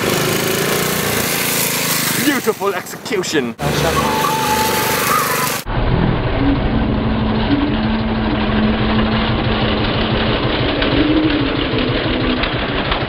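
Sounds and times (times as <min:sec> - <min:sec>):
small engine running: 0:00.0 - 0:02.8, 0:03.6 - 0:05.7, 0:06.5 - 0:13.0.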